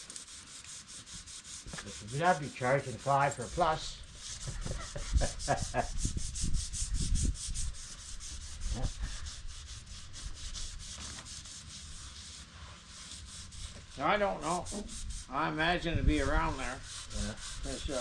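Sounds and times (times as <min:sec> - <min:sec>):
hand sanding rasping: 0:00.0 - 0:18.0.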